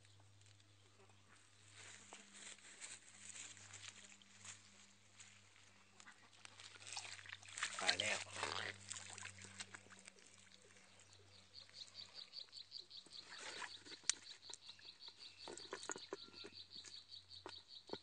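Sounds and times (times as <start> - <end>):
handling rustles and ticks: 0.0 - 18.0.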